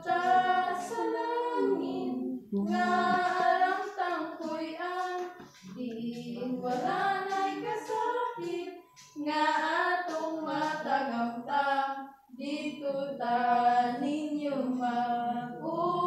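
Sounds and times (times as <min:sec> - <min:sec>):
girls singing a hymn: 0:00.0 - 0:16.0.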